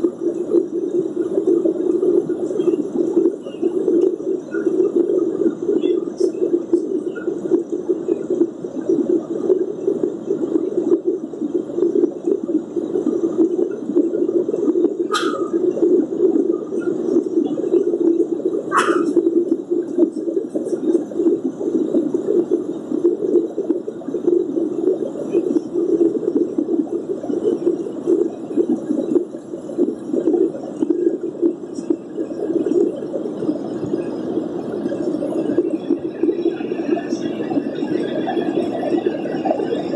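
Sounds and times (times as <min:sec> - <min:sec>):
muffled jet cabin rumble: 0:00.0 - 0:39.9.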